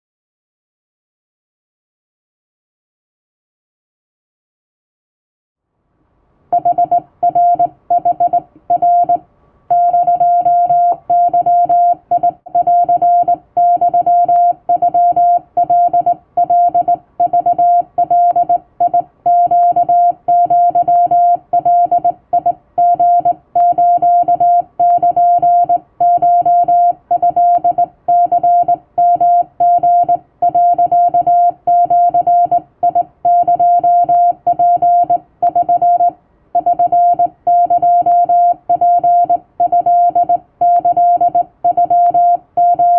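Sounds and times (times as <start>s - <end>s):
morse code beeps: 6.6s - 42.9s.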